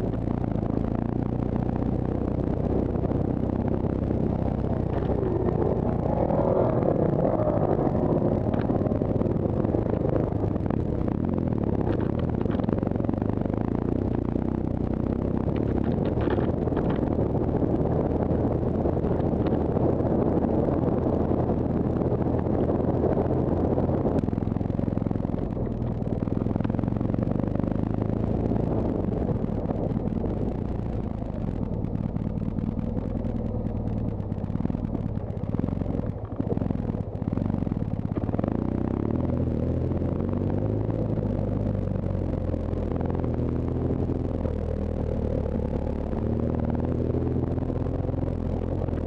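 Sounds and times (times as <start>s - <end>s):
motorcycle engine running: 0.0s - 49.0s
wind noise on microphone: 0.0s - 49.0s.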